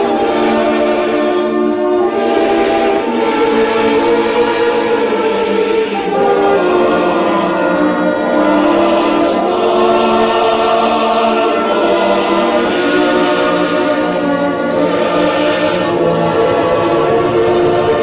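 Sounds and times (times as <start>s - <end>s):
choir singing held chords: 0.0s - 18.0s.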